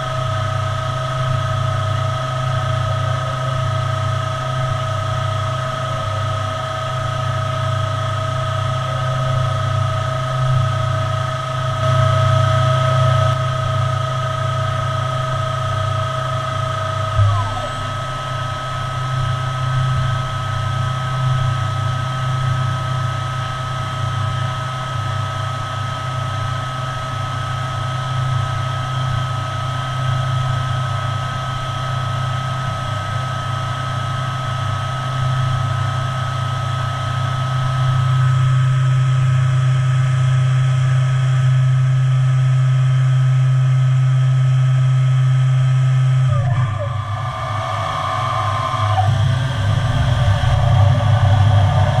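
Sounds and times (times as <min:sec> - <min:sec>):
machine high whine: 0:00.0 - 0:52.0
machine low hum: 0:00.0 - 0:52.0.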